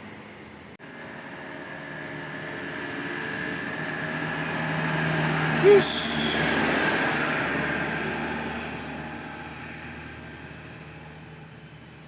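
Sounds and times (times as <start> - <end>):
truck passing: 0.8 - 12.0.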